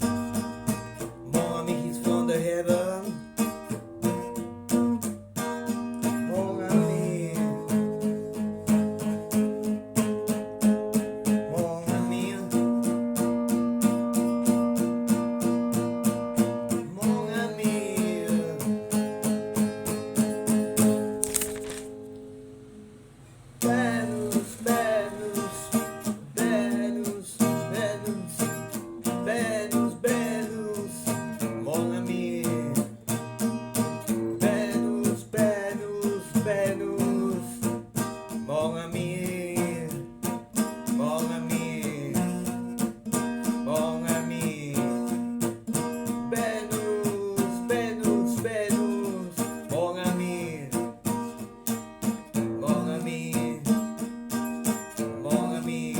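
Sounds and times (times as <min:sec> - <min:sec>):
guitar-led song: 0:00.0 - 0:55.9.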